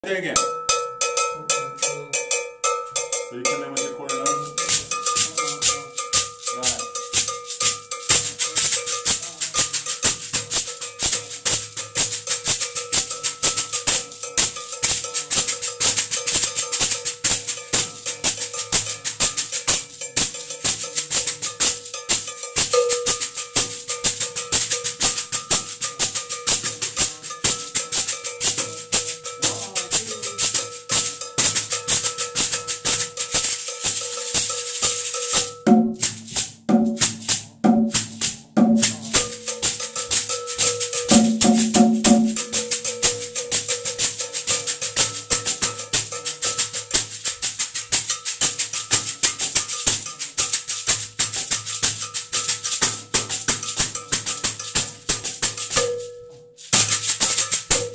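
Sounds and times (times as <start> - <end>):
cowbell pattern: 0.0 - 57.9
shekere rattle shaken: 0.1 - 57.9.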